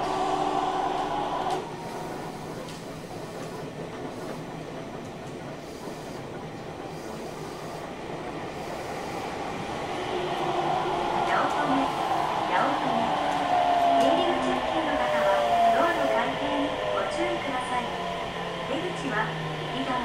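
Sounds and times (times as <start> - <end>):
train motor whine: 0.0 - 20.0
train wheels rumbling on track: 0.0 - 20.0.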